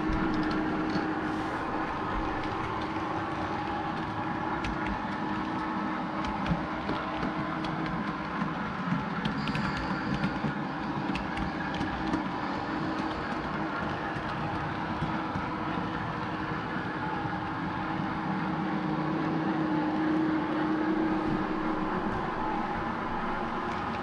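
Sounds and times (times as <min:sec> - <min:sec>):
model train mechanical hum: 0:00.0 - 0:24.0.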